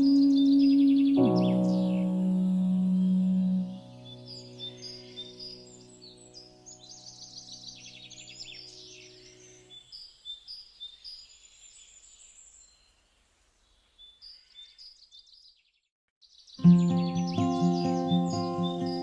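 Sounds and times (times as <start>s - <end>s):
birds chirping and trilling: 0.0s - 13.0s, 13.6s - 19.0s.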